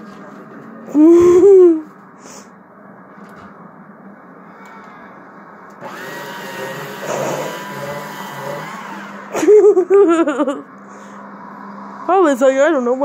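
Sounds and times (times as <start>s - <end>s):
steady whirring noise: 0.0s - 13.0s.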